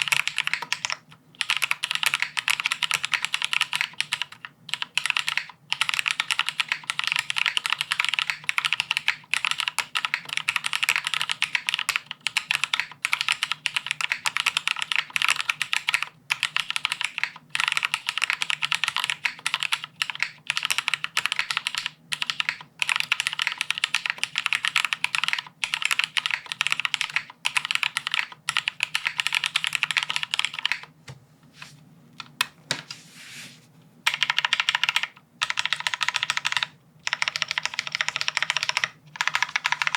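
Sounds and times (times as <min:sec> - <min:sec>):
fast typing on mechanical keyboard: 0:00.0 - 0:30.9, 0:34.1 - 0:39.9.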